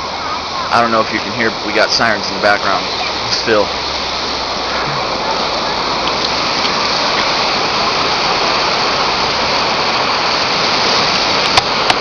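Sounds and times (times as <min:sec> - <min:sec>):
floodwater roaring: 0:00.0 - 0:12.0.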